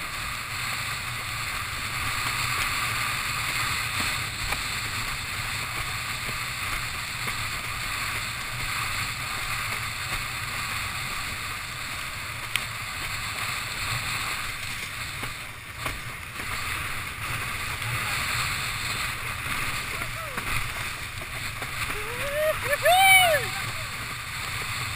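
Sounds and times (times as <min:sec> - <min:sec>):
water rushing under board: 0:00.0 - 0:24.9.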